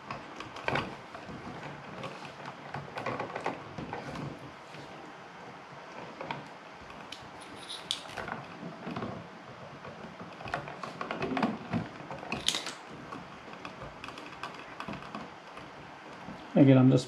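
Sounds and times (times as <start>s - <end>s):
wires rustling: 0.0s - 17.0s.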